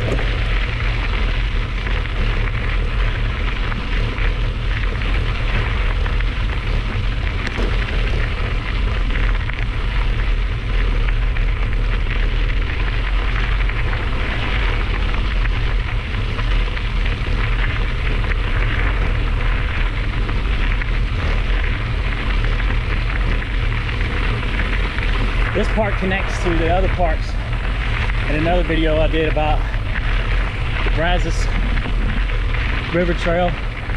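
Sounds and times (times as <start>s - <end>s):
bike tyres rolling on gravel: 0.0s - 33.9s
wind buffeting microphone: 0.0s - 33.9s.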